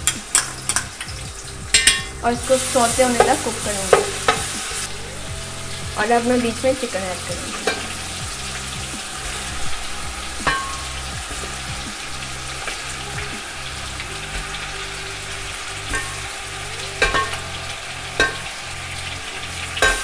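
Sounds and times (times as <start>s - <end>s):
chicken frying in hot oil: 0.0s - 20.0s
sharp crackles of oil: 0.0s - 20.0s.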